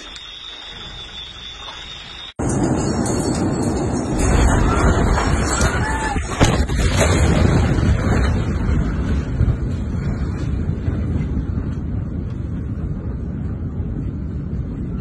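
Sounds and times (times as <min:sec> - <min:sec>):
blast wind buffeting microphone: 0:02.4 - 0:15.0
low explosion rumble: 0:02.4 - 0:15.0.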